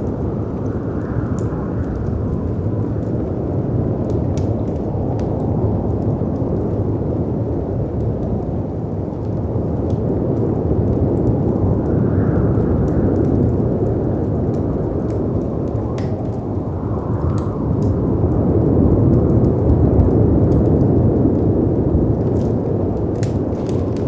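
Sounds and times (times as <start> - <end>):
wind: 0.0 - 24.0
wood fire crackling: 0.0 - 24.0.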